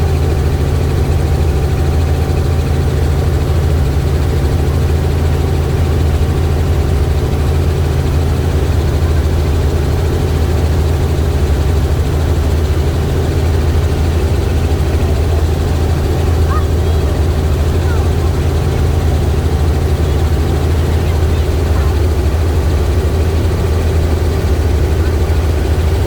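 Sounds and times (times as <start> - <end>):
helicopter rotor and engine drone: 0.0 - 26.0.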